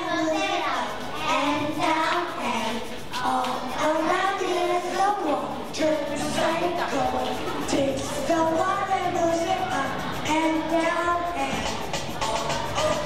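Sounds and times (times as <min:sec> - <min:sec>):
girl singing into a microphone: 0:00.0 - 0:13.0.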